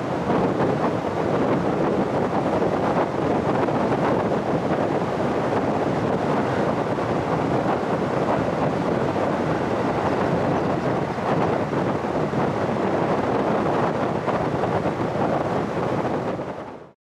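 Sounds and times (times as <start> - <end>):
car wind and road noise: 0.0 - 16.9
wind buffeting microphone: 0.0 - 16.9.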